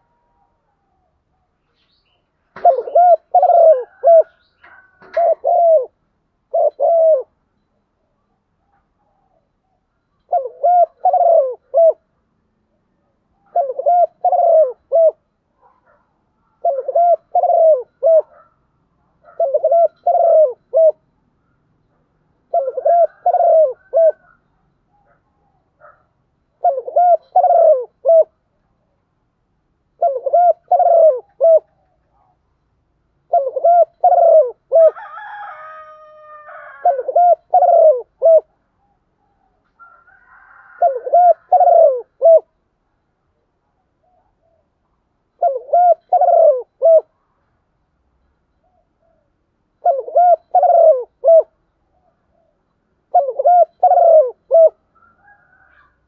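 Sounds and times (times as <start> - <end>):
dove cooing: 2.5 - 7.4, 8.6 - 21.6, 22.4 - 28.5, 29.9 - 32.4, 33.2 - 42.6, 43.6 - 47.2, 48.6 - 56.0.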